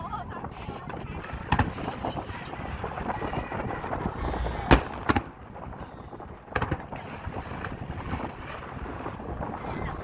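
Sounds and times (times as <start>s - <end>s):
fireworks bangs: 0.0s - 10.0s
outdoor noise: 0.0s - 10.0s.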